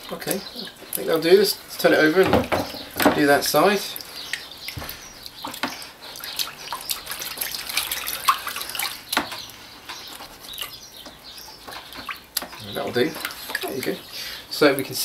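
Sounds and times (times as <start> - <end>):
water splashes: 0.0 - 9.5, 11.6 - 15.0.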